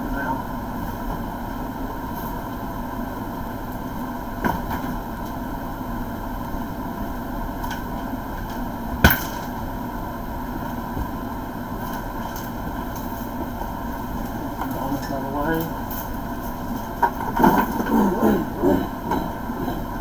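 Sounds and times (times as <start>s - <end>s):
steady room hum: 0.0s - 20.0s.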